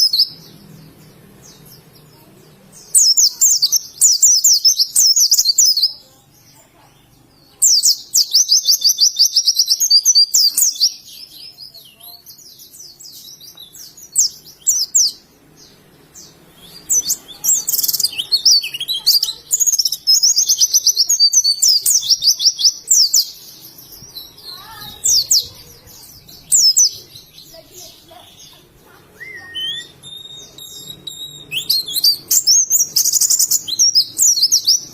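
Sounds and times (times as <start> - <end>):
bird high twittering song: 0.0 - 34.9
soft bird chirps: 0.0 - 34.9.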